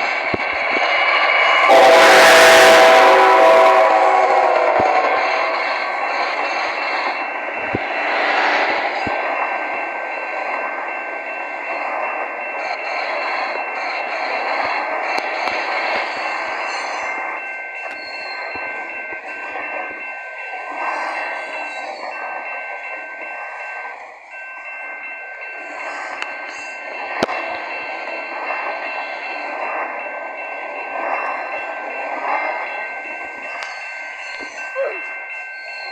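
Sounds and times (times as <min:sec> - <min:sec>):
freight train wagons on rails: 0:00.0 - 0:35.9.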